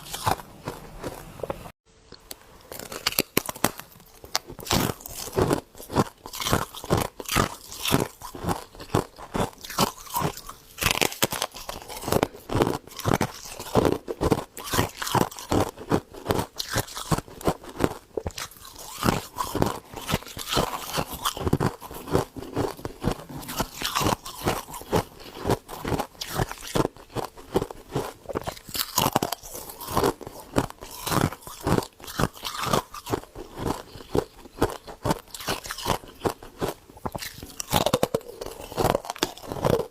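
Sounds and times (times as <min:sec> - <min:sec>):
chewing crunchy ice: 0:00.0 - 0:01.8, 0:02.6 - 0:39.9.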